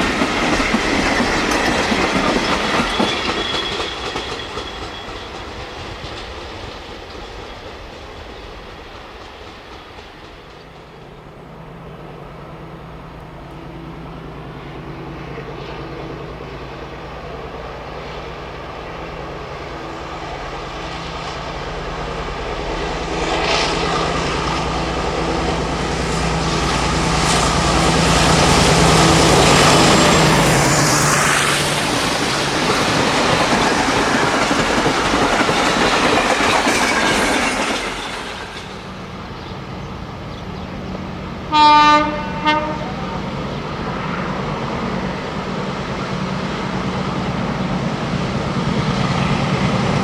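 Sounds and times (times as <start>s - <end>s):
locomotive engine hum: 0.0s - 50.0s.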